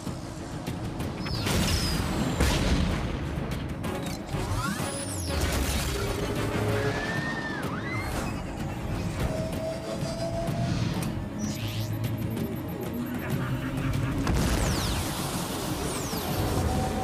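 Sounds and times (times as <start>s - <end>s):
action film music: 0.0s - 17.0s.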